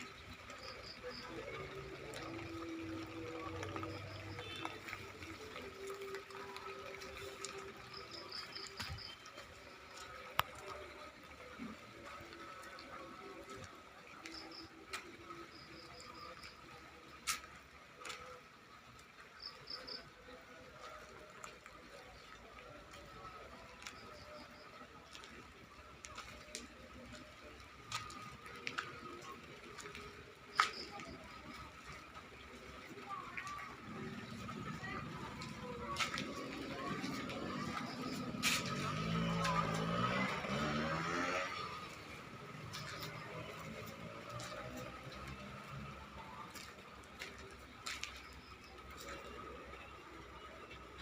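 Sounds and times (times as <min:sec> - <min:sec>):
light drizzle falling: 0:00.0 - 0:51.0
raindrops ticking sharply: 0:00.0 - 0:51.0
water running and dripping: 0:00.0 - 0:51.0.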